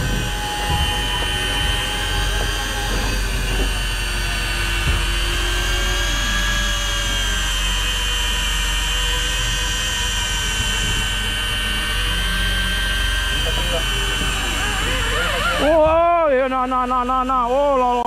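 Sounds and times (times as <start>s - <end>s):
high motor whine: 0.0s - 18.0s
low engine hum: 0.0s - 18.0s.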